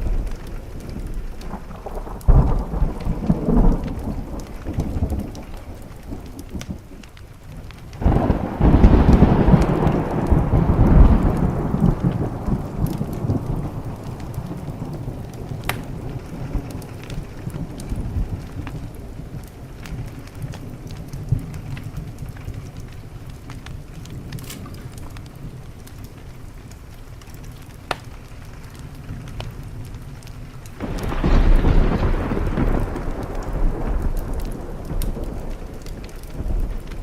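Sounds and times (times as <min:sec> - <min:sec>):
thunder: 0:00.0 - 0:07.0, 0:07.6 - 0:25.7, 0:30.8 - 0:37.0
steady rain: 0:00.0 - 0:37.0.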